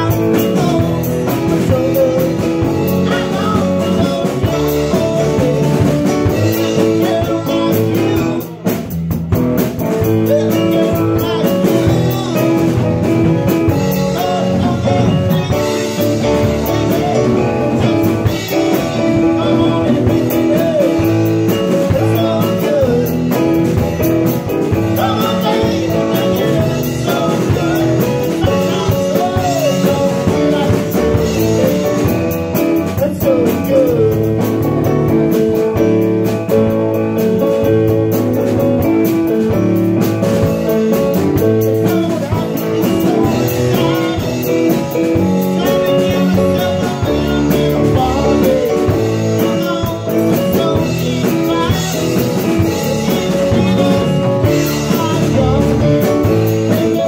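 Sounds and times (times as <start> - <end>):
man singing into a microphone: 0.0 - 57.0
rock band playing: 0.0 - 57.0.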